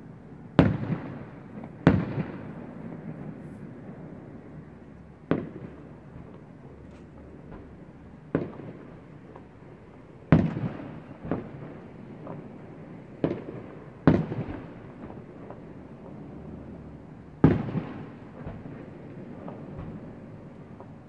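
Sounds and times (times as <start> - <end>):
distant fireworks booming: 0.0 - 21.0.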